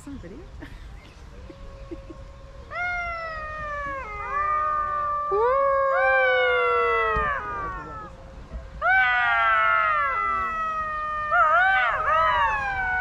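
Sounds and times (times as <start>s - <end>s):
jackals howling in chorus: 1.2s - 13.0s.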